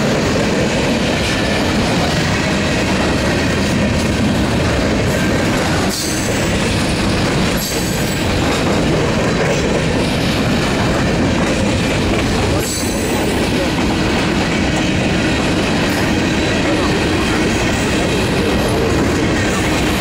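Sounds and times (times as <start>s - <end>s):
steel wheels rumbling on rails: 0.0s - 20.0s
wheels clacking over rail joints: 0.0s - 20.0s.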